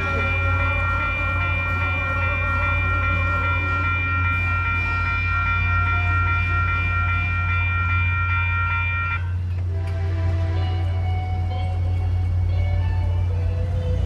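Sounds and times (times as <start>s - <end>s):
crossing warning bell ringing: 0.0s - 9.7s, 10.3s - 14.0s
low rumble: 0.0s - 14.0s.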